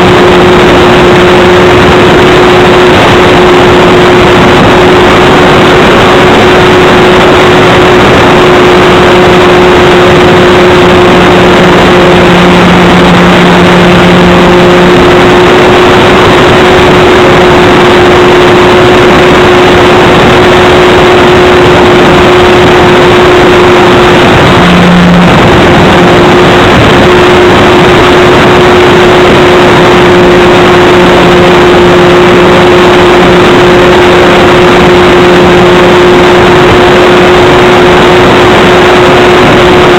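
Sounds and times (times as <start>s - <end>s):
electric motor and propeller whine: 0.0s - 39.9s
wind noise: 0.0s - 39.9s.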